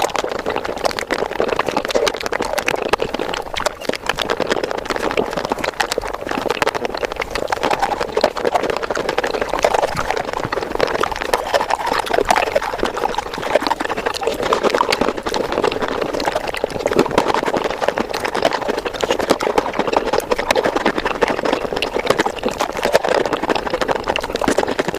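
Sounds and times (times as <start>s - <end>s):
sped-up eating sounds: 0.0s - 24.9s.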